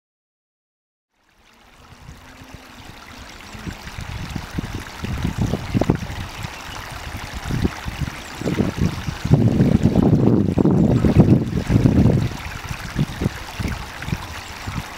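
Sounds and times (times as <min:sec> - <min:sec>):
stream water flowing: 0:01.1 - 0:14.9
wind buffeting microphone: 0:01.8 - 0:14.9.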